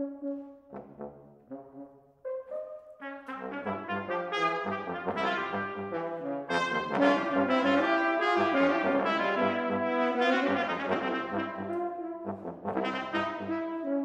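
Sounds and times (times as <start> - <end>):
brass ensemble playing: 0.0 - 14.0
low trombone notes pulsing: 0.0 - 14.0.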